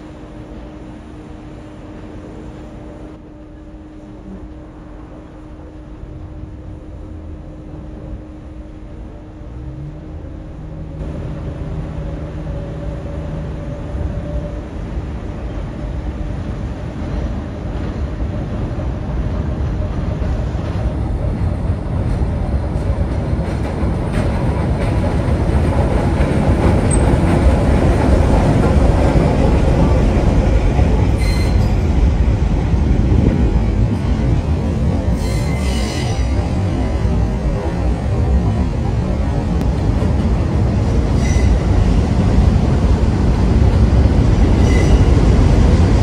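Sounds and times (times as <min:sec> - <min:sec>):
train passing on elevated track: 0:00.0 - 0:46.0.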